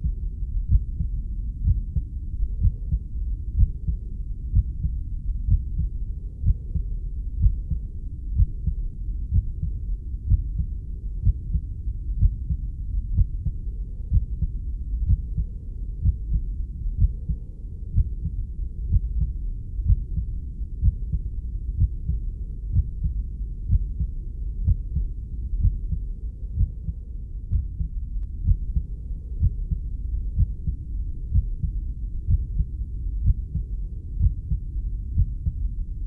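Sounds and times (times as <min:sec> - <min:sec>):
muffled heartbeat thumps: 0:00.0 - 0:35.8
continuous low rumble: 0:00.0 - 0:36.0.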